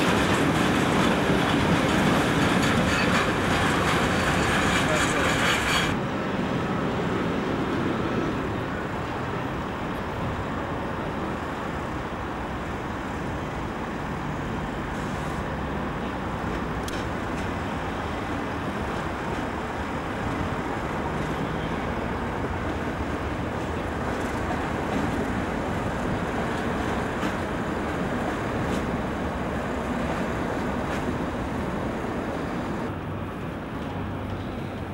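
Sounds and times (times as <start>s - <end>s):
diesel locomotives rumbling: 0.0s - 34.9s.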